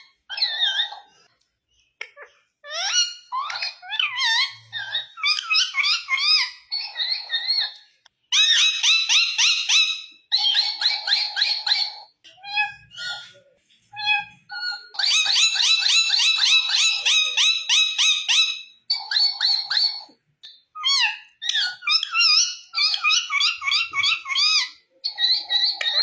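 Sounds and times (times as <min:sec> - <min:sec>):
parrot chirping and warbling: 0:00.0 - 0:26.0.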